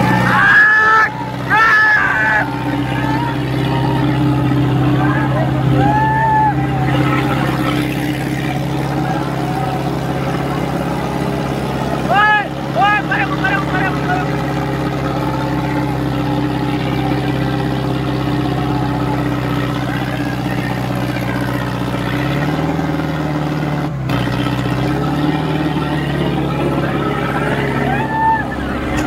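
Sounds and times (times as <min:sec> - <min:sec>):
diesel tractor engine running: 0:00.0 - 0:29.0.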